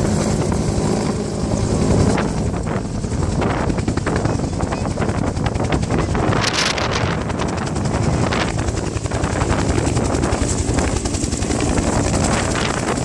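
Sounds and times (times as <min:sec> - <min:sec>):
helicopter flying overhead: 0:00.0 - 0:13.0
wind buffeting microphone: 0:00.0 - 0:13.0.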